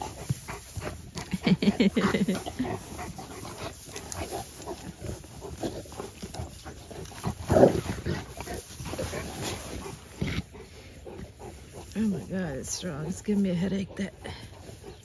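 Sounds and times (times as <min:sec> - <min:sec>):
pine straw rustling: 0:00.0 - 0:13.8
dogs vocalizing: 0:00.0 - 0:15.0.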